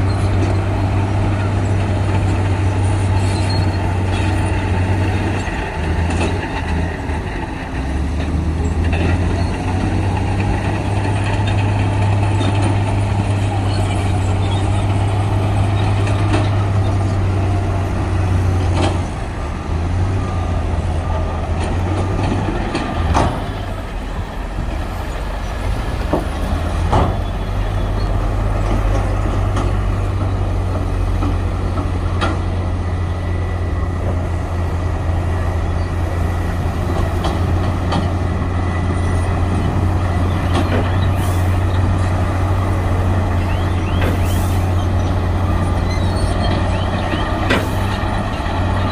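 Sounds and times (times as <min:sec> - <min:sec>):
heavy diesel machinery droning: 0:00.0 - 0:48.9.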